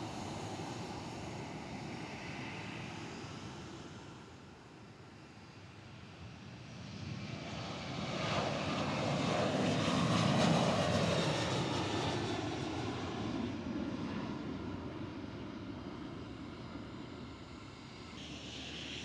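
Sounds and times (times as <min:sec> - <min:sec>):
jet engines passing by: 0:00.0 - 0:19.0.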